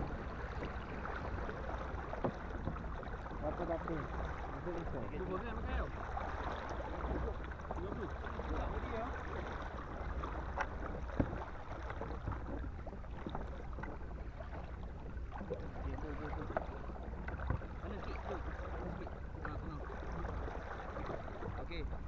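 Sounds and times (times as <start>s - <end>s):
low wind rumble on microphone: 0.0s - 22.0s
paddle blades splashing: 0.0s - 22.0s
water slapping against hull: 0.0s - 22.0s.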